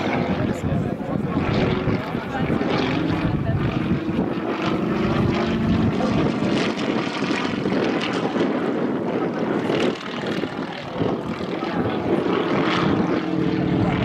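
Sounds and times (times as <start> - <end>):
radial aircraft engine droning: 0.0 - 14.0.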